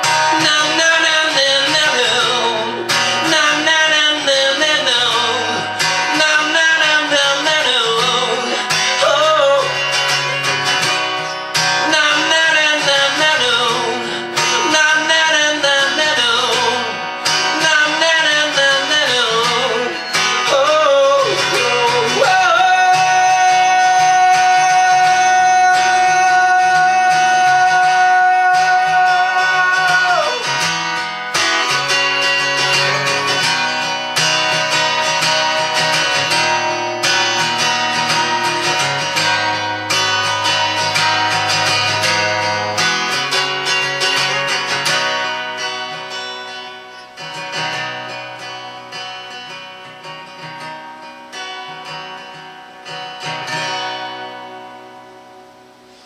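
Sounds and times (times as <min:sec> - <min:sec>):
man singing: 0:00.0 - 0:46.0
strummed acoustic guitar: 0:00.0 - 0:56.0.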